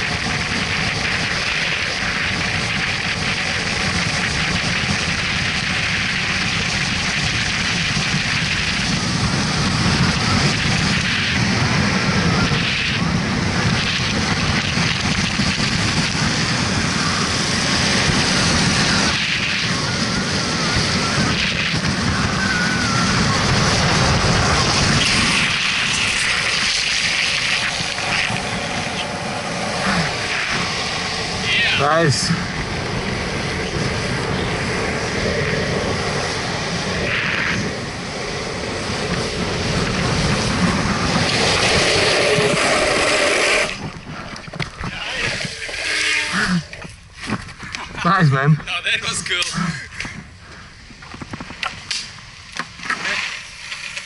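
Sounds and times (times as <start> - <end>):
wind buffeting microphone: 0.0 - 52.8
road rumble: 0.0 - 54.0.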